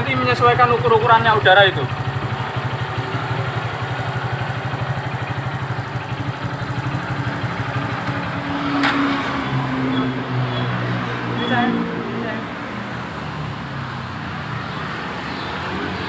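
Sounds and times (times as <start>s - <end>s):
motorcycle engine idling: 0.0s - 10.7s, 12.4s - 16.0s.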